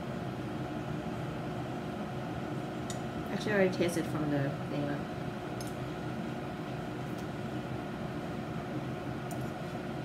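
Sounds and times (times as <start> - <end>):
appliance mechanical hum: 0.0 - 10.0.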